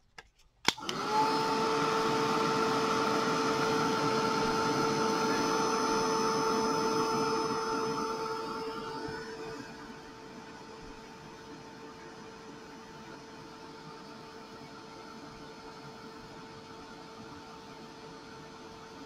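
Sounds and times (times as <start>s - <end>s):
heat tool fan whining hum: 0.6s - 19.0s.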